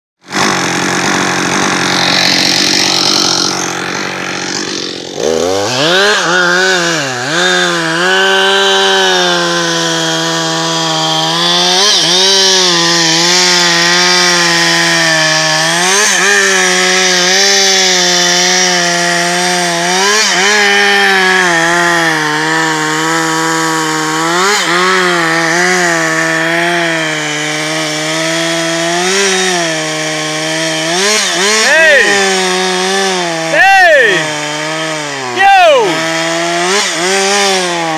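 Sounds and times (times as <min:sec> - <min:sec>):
chainsaw cutting wood: 0:00.2 - 0:37.9.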